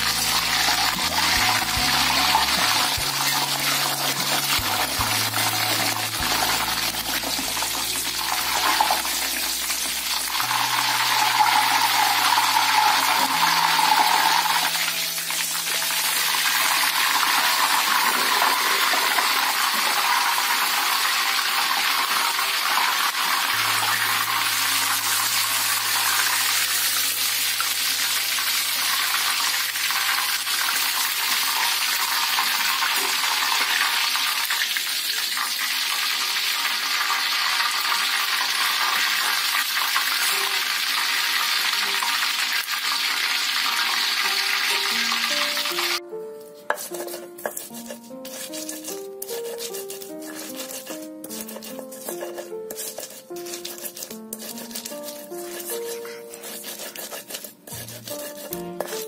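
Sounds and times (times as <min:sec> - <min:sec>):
chilies sizzling in hot oil: 0:00.0 - 0:59.0
chilies stirred in oil: 0:00.0 - 0:59.0.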